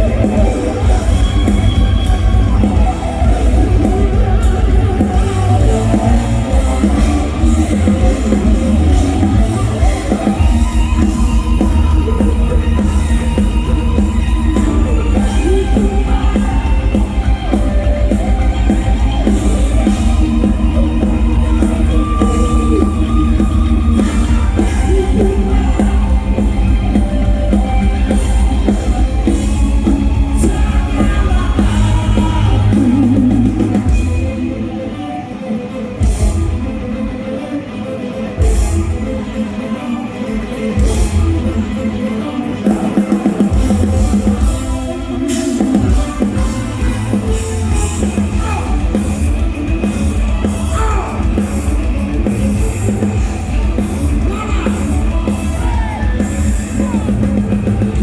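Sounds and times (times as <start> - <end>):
bass guitar: 0.0 - 34.9, 36.0 - 37.1, 38.3 - 58.0
drums: 0.0 - 58.0
electric guitars: 0.0 - 58.0
person singing: 0.0 - 58.0.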